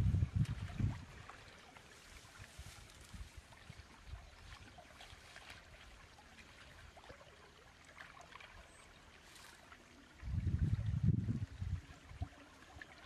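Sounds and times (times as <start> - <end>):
small water splashes and trickling: 0.0 - 13.0.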